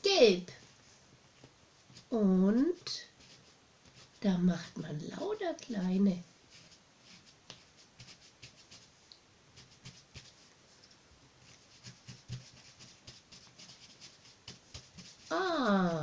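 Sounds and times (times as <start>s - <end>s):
cardboard tube dabbing on paper: 1.3s - 4.8s, 6.2s - 16.0s.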